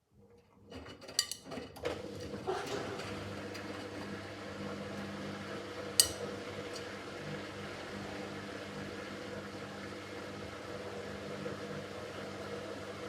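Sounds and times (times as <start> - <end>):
washing machine hum: 0.1 - 13.0.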